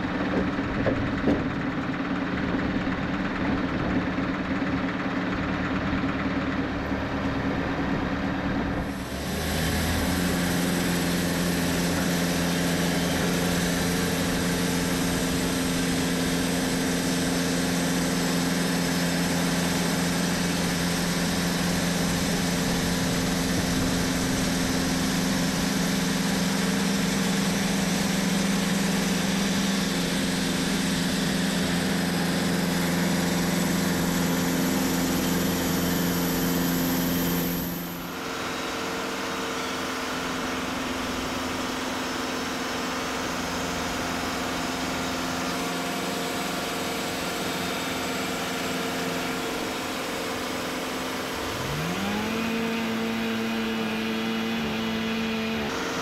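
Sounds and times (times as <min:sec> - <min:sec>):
band sawmill sawing logs: 0:00.0 - 0:56.0.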